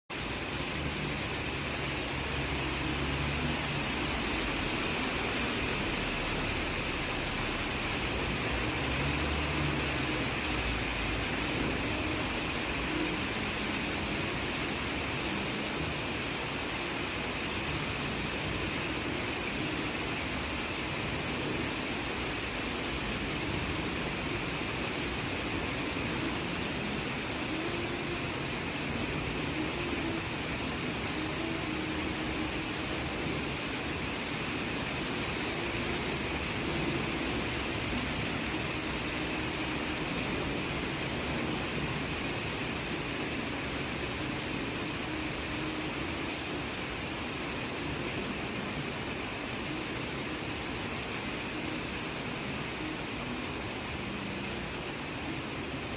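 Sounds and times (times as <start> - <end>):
rain hissing: 0.1 - 55.9.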